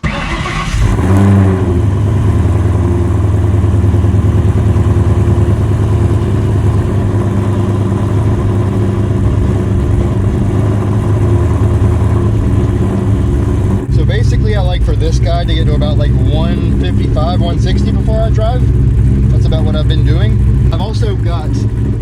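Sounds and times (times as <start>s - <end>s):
car engine idling loudly: 0.0s - 22.0s.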